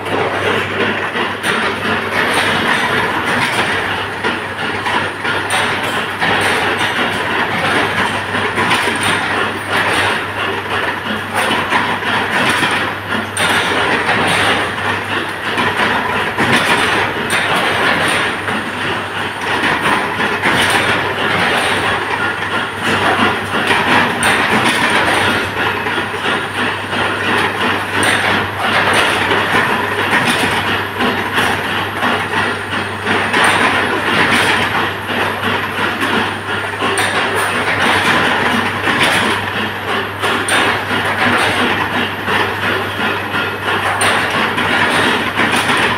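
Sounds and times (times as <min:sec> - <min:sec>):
loud uneven clattering: 0:00.0 - 0:45.9.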